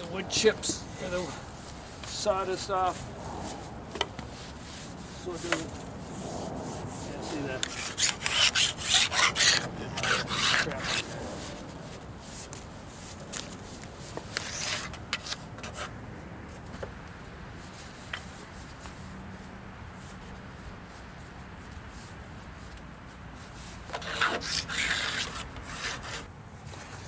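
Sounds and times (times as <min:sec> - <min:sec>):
wood chips scraped and brushed: 0:00.0 - 0:16.0, 0:17.5 - 0:27.0.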